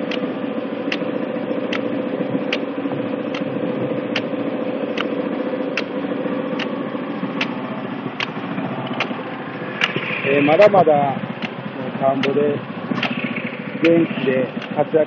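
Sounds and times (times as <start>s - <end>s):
engine idling: 0.0s - 15.0s
sharp ticking: 0.0s - 15.0s.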